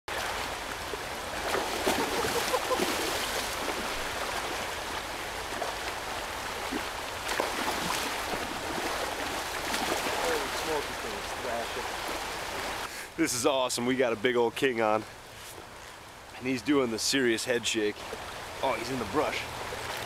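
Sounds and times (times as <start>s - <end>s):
river current rushing: 0.1s - 20.0s.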